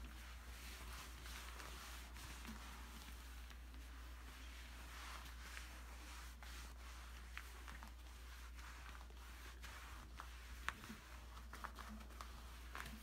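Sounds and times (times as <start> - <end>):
mitt swishing over skin: 0.0 - 13.0.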